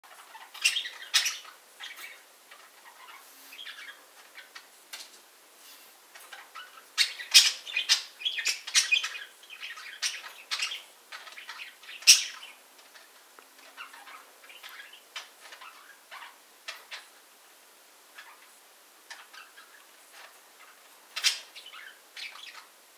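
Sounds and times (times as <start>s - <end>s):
budgerigars chirping and squawking: 0.1s - 4.8s, 6.2s - 17.3s, 18.1s - 22.8s.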